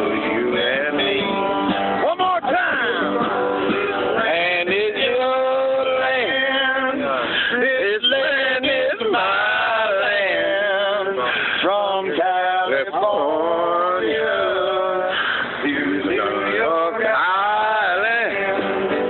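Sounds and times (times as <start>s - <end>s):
man singing: 0.0s - 19.0s
strummed acoustic guitar: 0.0s - 19.0s.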